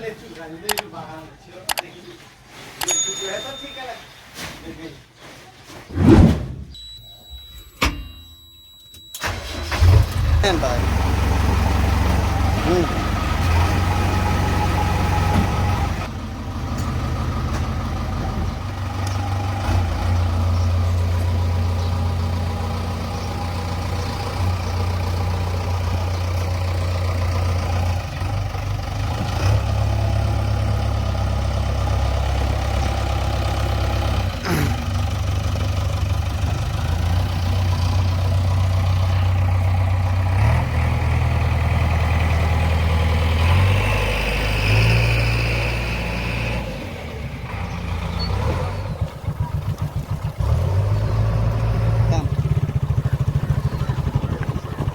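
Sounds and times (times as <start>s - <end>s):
diesel engine running: 9.2s - 54.9s.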